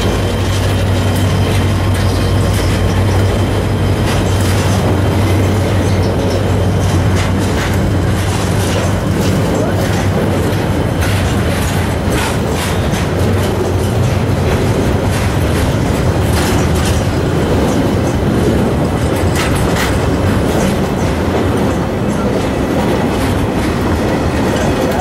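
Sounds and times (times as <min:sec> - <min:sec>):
train rumbling: 0:00.0 - 0:25.0
wheels clicking over rail joints: 0:00.0 - 0:25.0.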